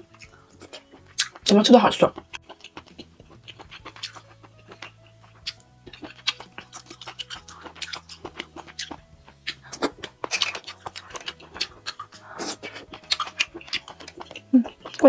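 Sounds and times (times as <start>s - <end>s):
wet lip smacks and sucking: 0.1s - 1.4s, 2.2s - 15.0s
chewing clicks: 0.1s - 1.5s, 2.1s - 15.0s.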